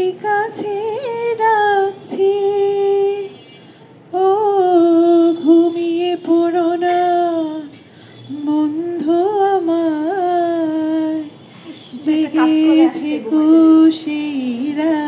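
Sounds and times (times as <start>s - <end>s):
woman singing unaccompanied: 0.0s - 3.4s, 4.1s - 15.0s.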